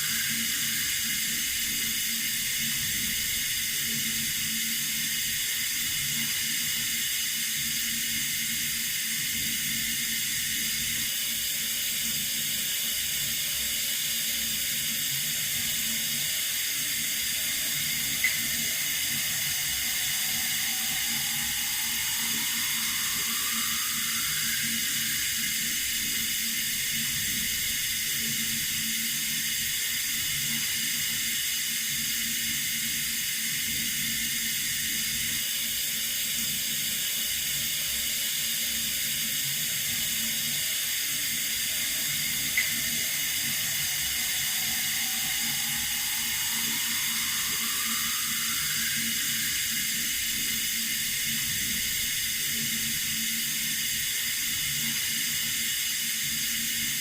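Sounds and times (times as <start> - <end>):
water running from a tap: 0.0 - 35.2, 38.3 - 57.0.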